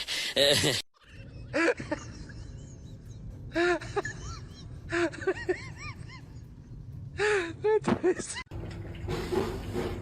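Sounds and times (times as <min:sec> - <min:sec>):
steady low hum: 0:01.1 - 0:10.0.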